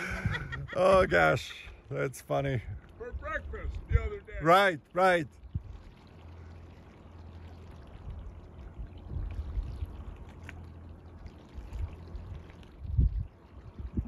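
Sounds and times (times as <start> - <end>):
low steady rumble: 0.0 - 14.0
water lapping against boat hull: 0.0 - 14.0.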